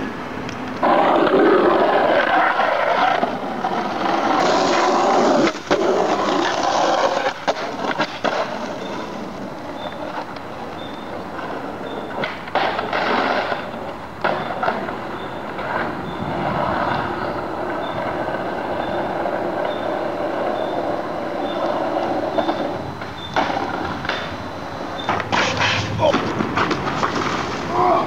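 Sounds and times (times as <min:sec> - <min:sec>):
skateboard wheels rolling on pavement: 0:00.0 - 0:28.0
skateboard clacks and scrapes: 0:00.6 - 0:28.0.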